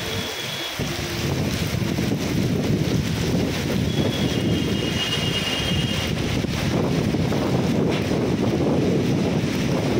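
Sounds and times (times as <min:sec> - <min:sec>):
heavy rain on pavement: 0:00.0 - 0:09.9
wind rumble on microphone: 0:00.0 - 0:09.9.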